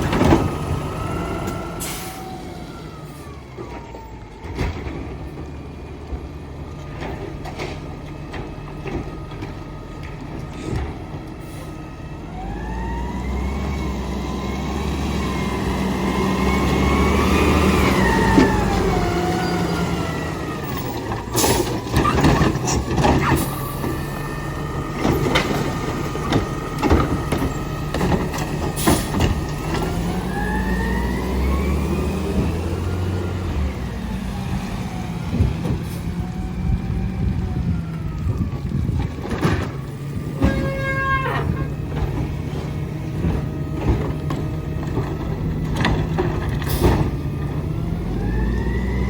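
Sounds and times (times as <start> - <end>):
garbage truck engine revving: 0.0 - 3.9, 4.7 - 49.0.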